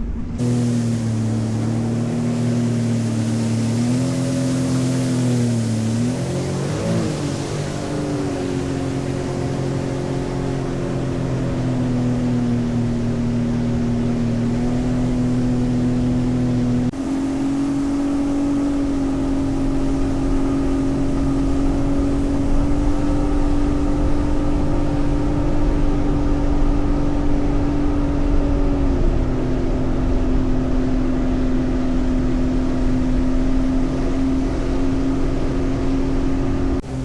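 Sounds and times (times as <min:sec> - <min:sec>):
watercraft engine running: 0:00.0 - 0:37.0.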